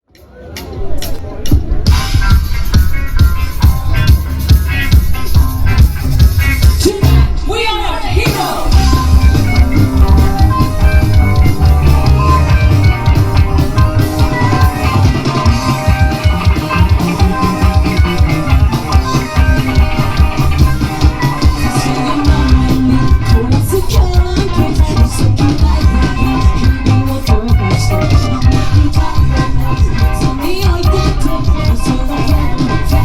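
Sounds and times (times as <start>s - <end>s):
live rock band playing: 0.1s - 33.0s.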